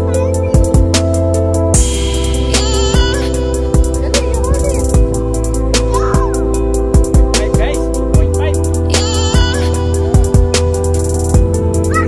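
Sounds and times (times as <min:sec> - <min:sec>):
song with drum beat and bass: 0:00.0 - 0:12.0.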